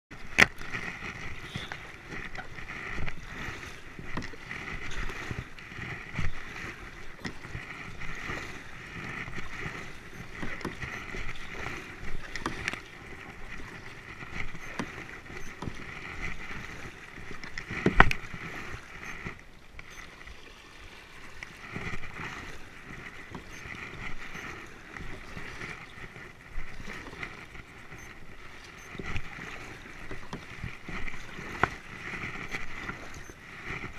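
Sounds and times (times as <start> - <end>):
paddle strokes splashing water: 0.1 - 33.9.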